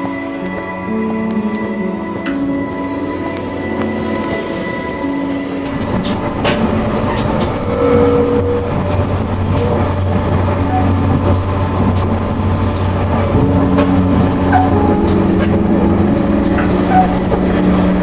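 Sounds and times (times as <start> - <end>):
low hum: 0.0 - 18.0
train rumbling: 0.0 - 18.0.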